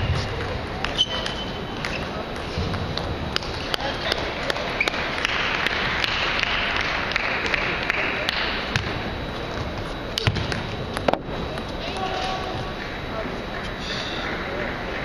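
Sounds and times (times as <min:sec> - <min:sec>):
background murmur: 0:00.0 - 0:15.0.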